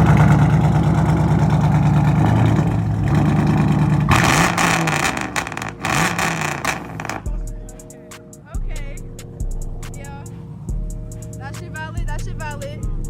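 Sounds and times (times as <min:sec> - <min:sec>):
engine revving: 0:00.0 - 0:08.4, 0:09.0 - 0:13.0
car engine running: 0:00.0 - 0:13.0.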